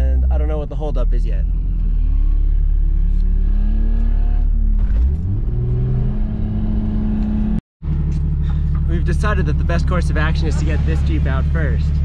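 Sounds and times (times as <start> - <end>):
engine revving under load: 1.2 - 12.0.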